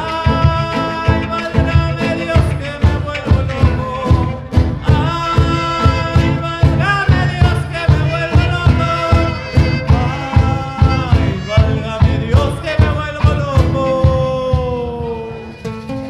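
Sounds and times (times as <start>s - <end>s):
violin melody: 0.0s - 14.0s, 15.1s - 16.0s
low beat: 0.0s - 16.0s
strummed strings: 0.0s - 16.0s.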